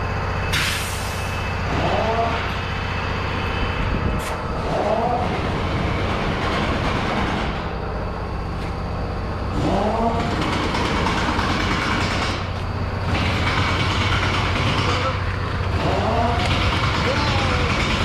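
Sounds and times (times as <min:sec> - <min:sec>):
vehicle engine running: 0:01.2 - 0:18.0.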